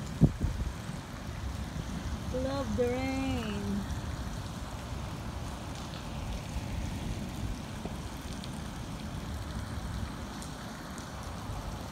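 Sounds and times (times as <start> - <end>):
heavy rain: 0.0 - 11.9.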